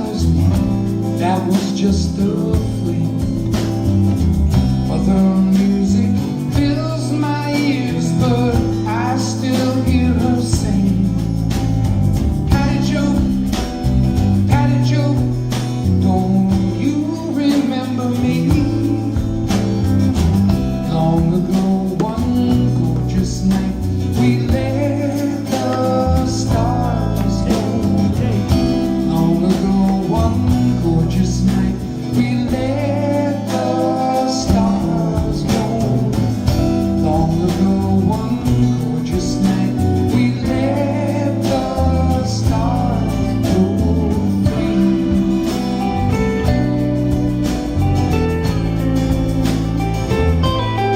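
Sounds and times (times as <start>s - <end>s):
lead vocal singing: 0.0s - 46.8s
live band playing soft rock: 0.0s - 50.9s.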